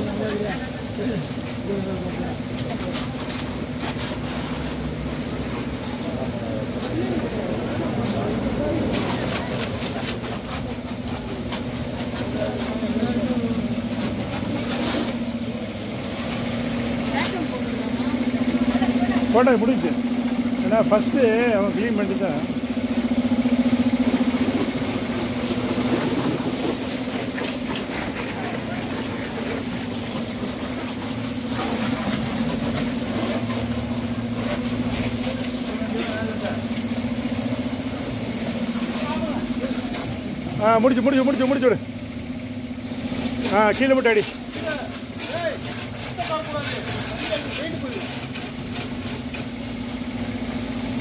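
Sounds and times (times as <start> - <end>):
pressure washer humming: 0.0 - 51.0
water jet spraying on car: 0.0 - 51.0.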